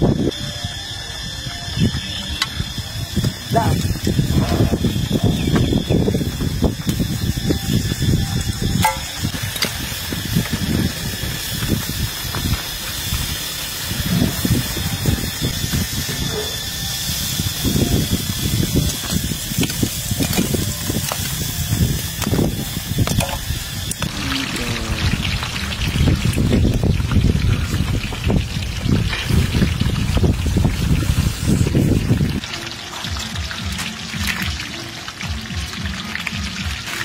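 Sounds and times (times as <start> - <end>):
meat sizzling on a grill: 0.0 - 37.0.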